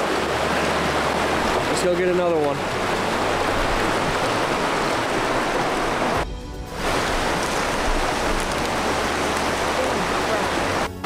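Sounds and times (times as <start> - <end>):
river water rushing over rocks: 0.0 - 6.2, 6.8 - 11.0.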